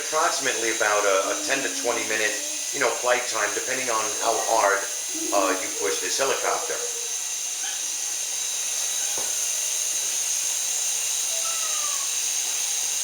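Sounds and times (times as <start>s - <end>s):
toy helicopter rotors whining: 0.0s - 13.0s.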